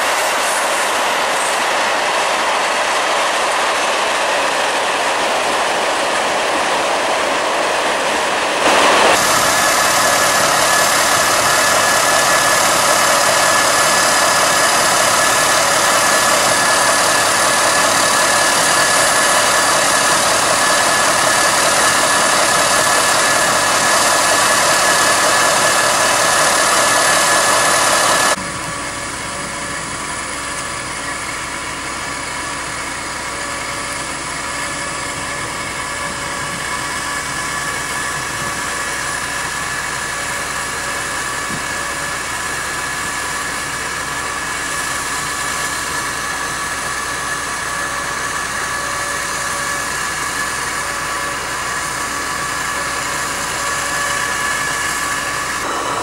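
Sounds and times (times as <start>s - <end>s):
diesel locomotive idling: 0.0s - 56.0s
steady high whine: 0.0s - 56.0s.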